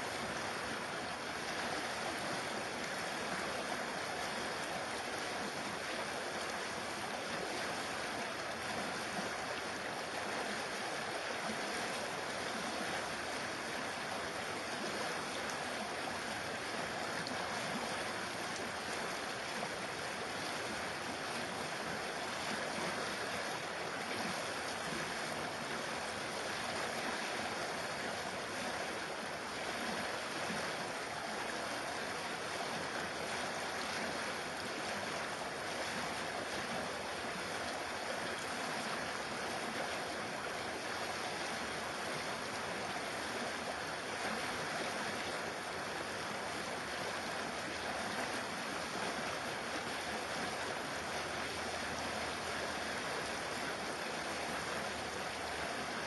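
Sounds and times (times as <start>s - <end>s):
stream babbling: 0.0s - 56.0s.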